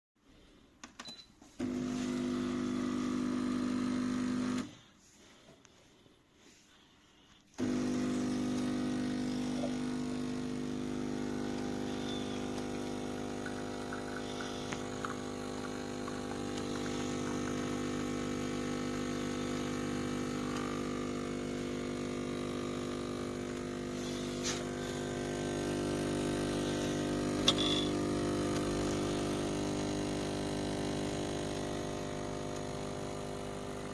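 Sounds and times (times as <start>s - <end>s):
espresso machine pump buzzing: 1.6s - 4.8s, 7.6s - 33.9s.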